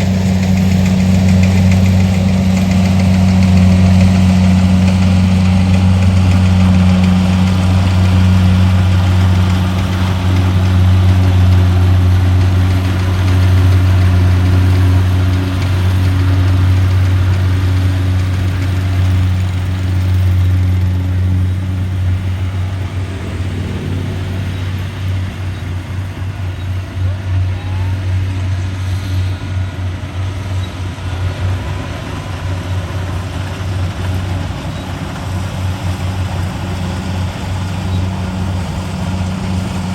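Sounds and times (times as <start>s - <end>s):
combine harvester diesel engine drone: 0.0s - 39.9s.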